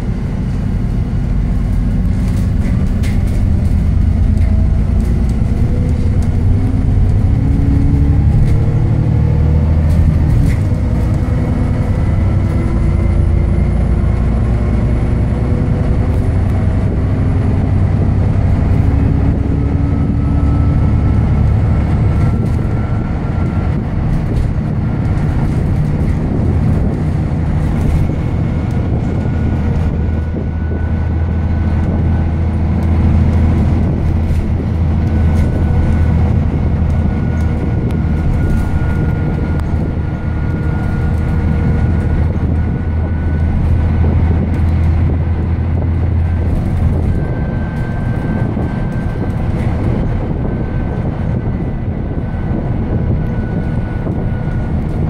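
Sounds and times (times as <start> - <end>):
bus diesel engine droning: 0.0 - 55.0
road and body noise: 0.0 - 55.0.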